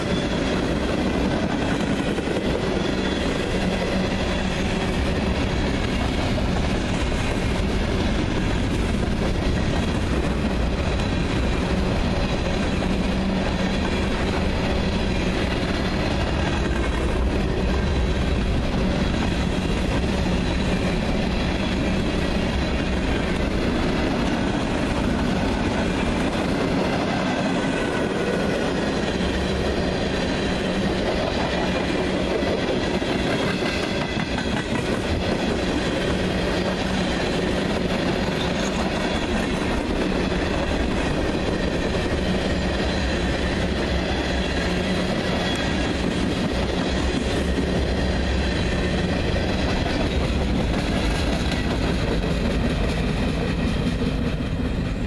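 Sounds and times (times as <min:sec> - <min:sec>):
freight train rumbling past: 0:00.0 - 0:55.0
steel wheels clacking on rails: 0:00.0 - 0:55.0.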